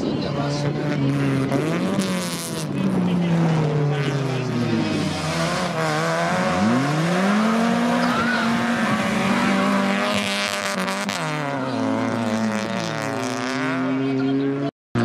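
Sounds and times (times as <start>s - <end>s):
car engine revving hard: 0.4s - 15.0s.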